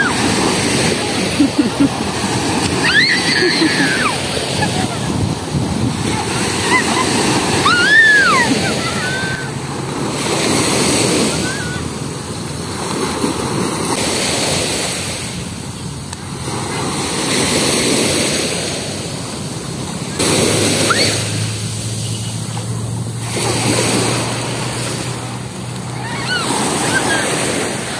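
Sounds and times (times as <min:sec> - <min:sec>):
ocean waves breaking on beach: 0:00.0 - 0:27.9.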